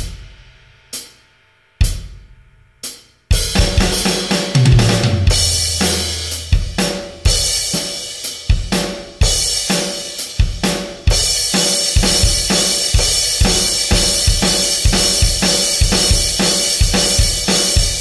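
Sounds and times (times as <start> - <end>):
drum kit groove: 0.0 - 18.0.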